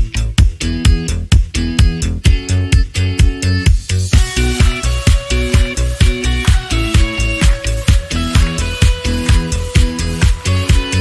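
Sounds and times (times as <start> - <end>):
upbeat funk instrumental music: 0.0 - 11.0.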